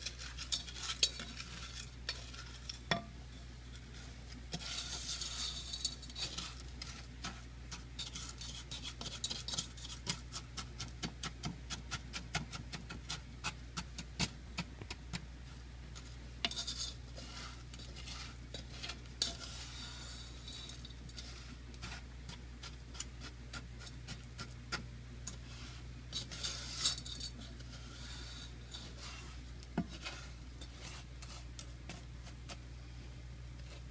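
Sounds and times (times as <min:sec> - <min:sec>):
utensil scraping a pan: 0:00.0 - 0:14.4, 0:16.0 - 0:32.6.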